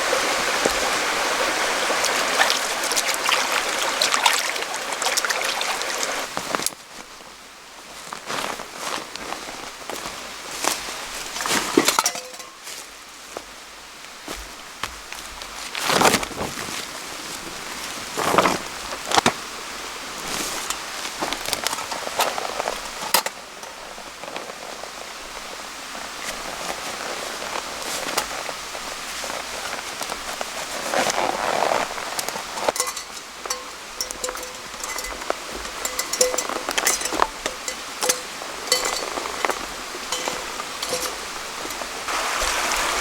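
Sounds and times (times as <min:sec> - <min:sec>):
campfire crackling and hissing: 0:00.0 - 0:43.0.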